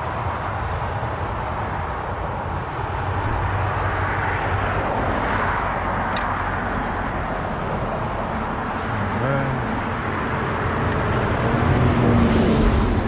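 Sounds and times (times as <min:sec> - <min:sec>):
motor traffic rumble: 0:00.0 - 0:13.0.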